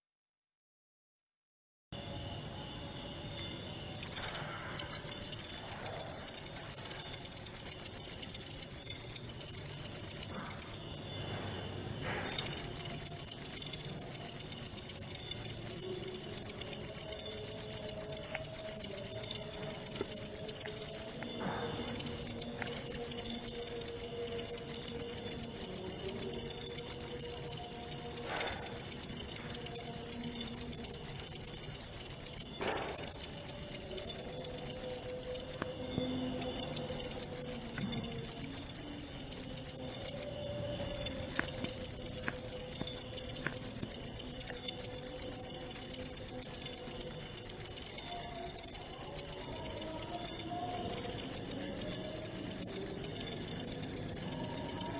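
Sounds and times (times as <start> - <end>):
cricket chirping: 2.0 - 54.9.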